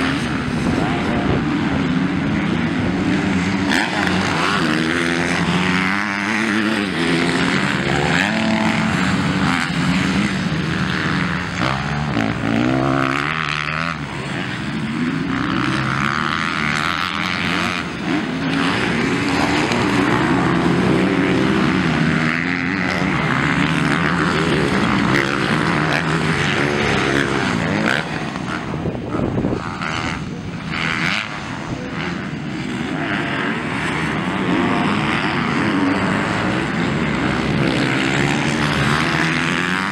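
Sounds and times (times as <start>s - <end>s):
motocross motorcycles revving: 0.0s - 39.9s.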